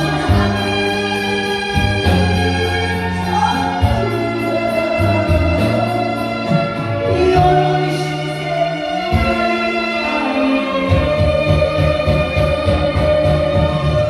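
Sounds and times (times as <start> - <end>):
music with singing over a beat: 0.0 - 14.0.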